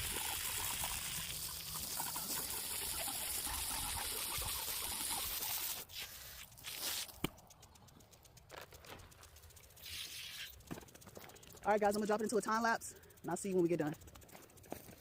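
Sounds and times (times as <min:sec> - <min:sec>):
hose spraying water on brick: 0:00.0 - 0:12.7.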